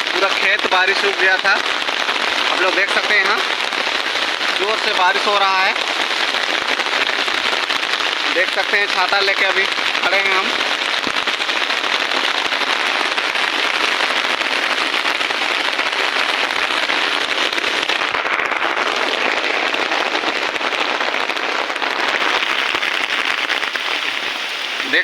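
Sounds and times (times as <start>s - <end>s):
heavy rain on umbrella: 0.0s - 25.0s.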